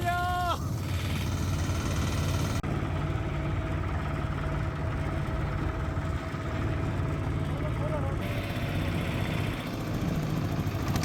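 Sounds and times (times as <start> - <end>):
diesel tractor engine chugging: 0.0 - 11.0.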